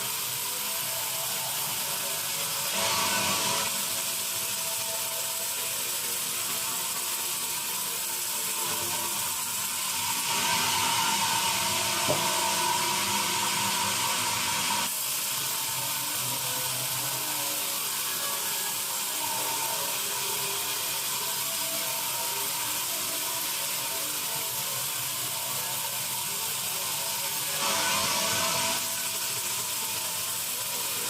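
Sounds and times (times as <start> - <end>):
bandsaw machinery running: 0.0 - 31.0.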